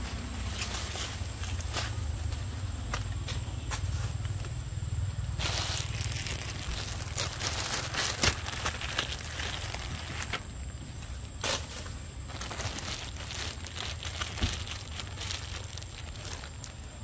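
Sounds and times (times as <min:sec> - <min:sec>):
dry leaves crackling and crunching: 0:00.0 - 0:17.0
steady low rumble: 0:00.0 - 0:17.0.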